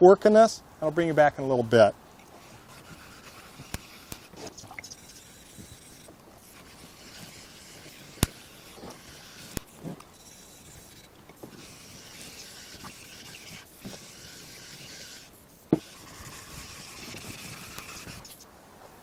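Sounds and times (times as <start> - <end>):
water stone rubbing on metal: 2.2 - 18.4.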